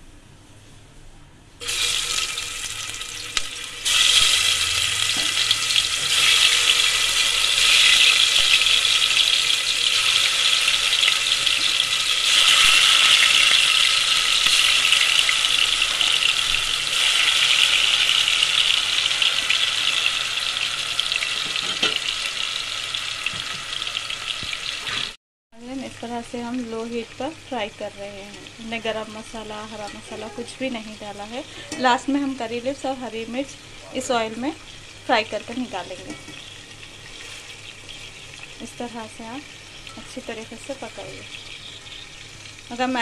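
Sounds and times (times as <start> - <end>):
chicken sizzling in hot oil: 1.6 - 43.0.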